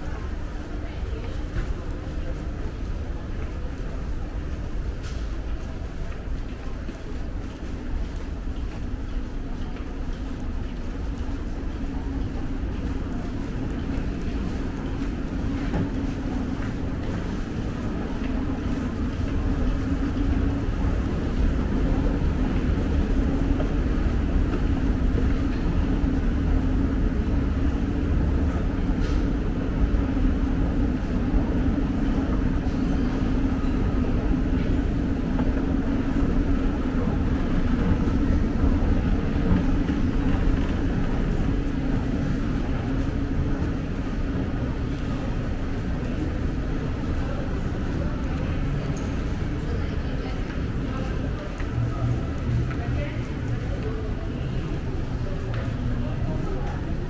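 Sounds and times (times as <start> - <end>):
escalator humming and rumbling: 0.0 - 57.0.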